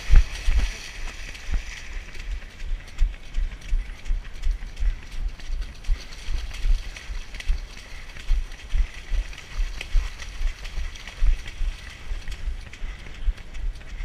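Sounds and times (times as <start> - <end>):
footsteps on muddy grass: 0.0 - 14.0.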